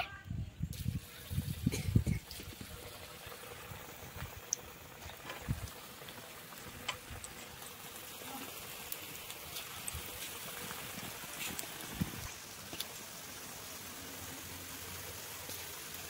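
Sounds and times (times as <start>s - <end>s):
food sizzling in hot oil: 0.6s - 16.0s.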